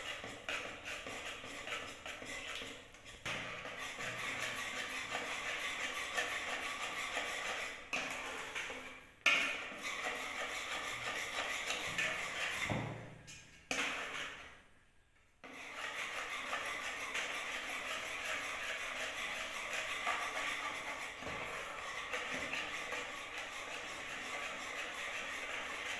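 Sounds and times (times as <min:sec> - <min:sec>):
whisk scraping and clicking on pot: 0:00.0 - 0:12.7, 0:13.7 - 0:14.6, 0:15.4 - 0:25.9.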